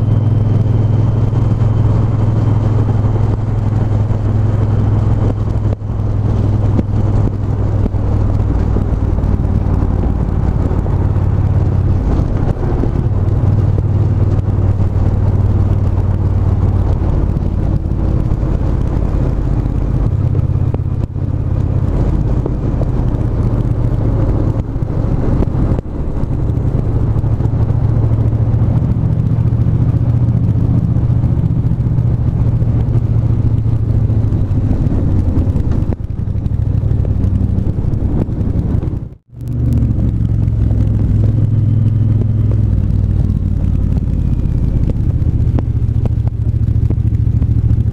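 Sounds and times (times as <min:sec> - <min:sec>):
motorcycle engine running: 0:00.0 - 0:47.9
road and wind noise: 0:00.0 - 0:47.9.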